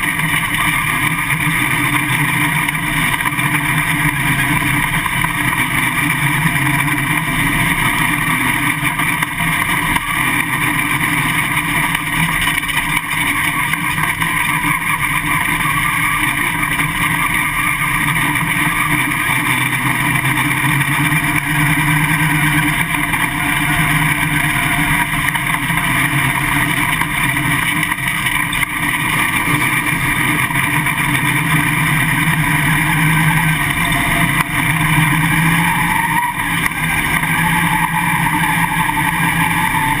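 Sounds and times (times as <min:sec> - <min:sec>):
race car engine running: 0:00.0 - 0:40.0.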